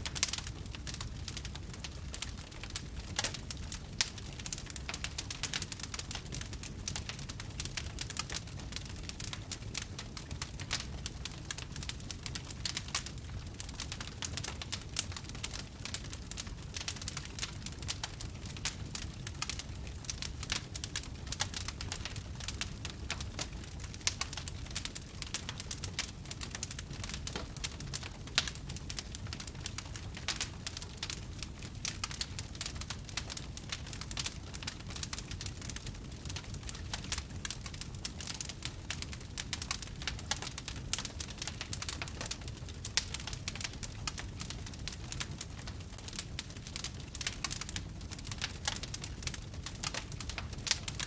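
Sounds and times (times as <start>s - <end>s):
low rumble of flames: 0.0s - 51.0s
wood fire crackling and popping: 0.0s - 51.0s.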